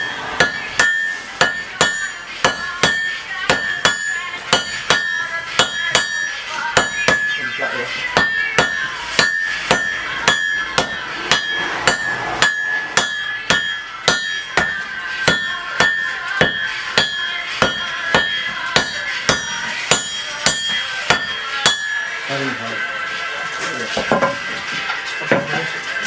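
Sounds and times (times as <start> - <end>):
hammer striking iron on anvil: 0.0 - 7.4, 8.1 - 22.2.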